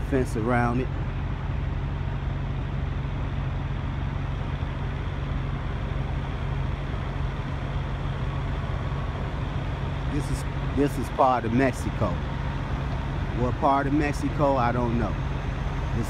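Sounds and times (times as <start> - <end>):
truck diesel engines idling: 0.0 - 16.0.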